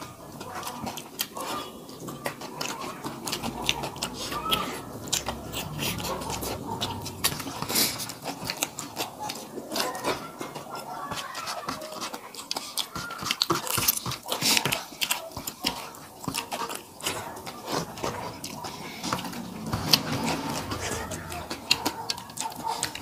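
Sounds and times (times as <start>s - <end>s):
fingers mixing rice on steel plates: 0.0s - 23.0s
people chewing food: 0.0s - 23.0s.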